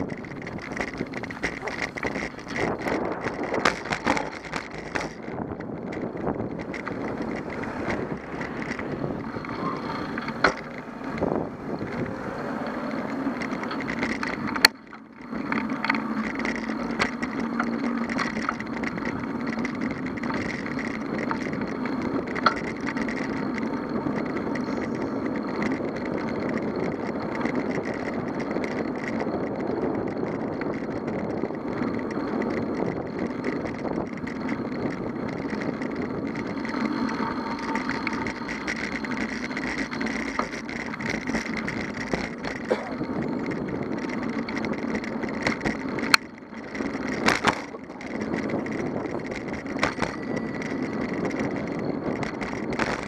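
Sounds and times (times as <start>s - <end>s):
bicycle tyre rumble on road: 0.0s - 53.0s
bike rattles and knocks: 0.0s - 53.0s.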